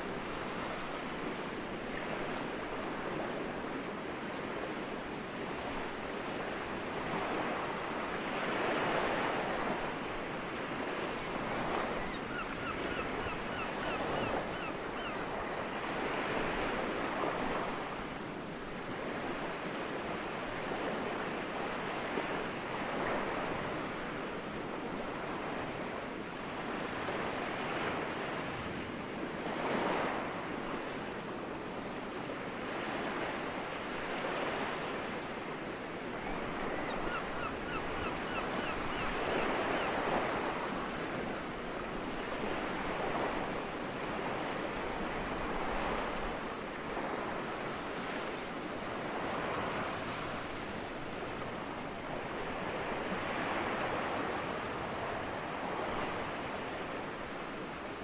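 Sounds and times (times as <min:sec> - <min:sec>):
sea waves washing ashore: 0:00.0 - 0:58.0.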